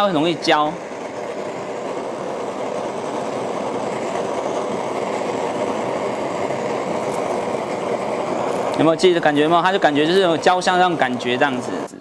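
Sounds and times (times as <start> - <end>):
kitchen torch flame rushing: 0.0 - 12.0.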